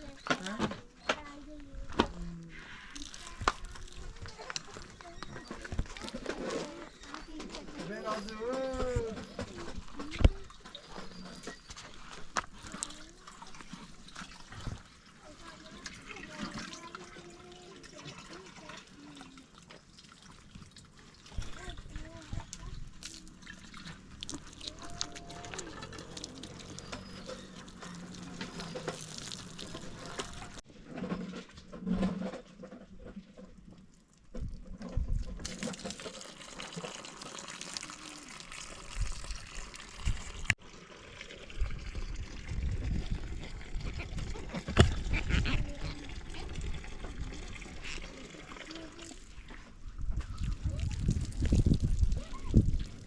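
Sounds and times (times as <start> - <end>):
water pouring and trickling: 2.4 - 30.7, 32.0 - 53.0.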